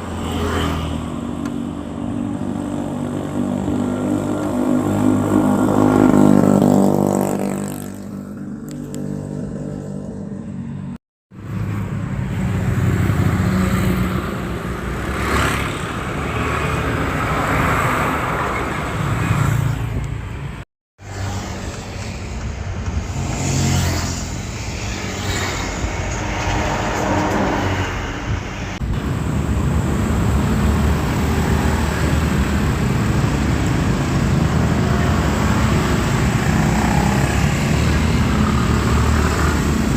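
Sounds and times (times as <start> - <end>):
cars and motorcycles passing: 0.0 - 39.9
traffic rumble: 0.0 - 39.9.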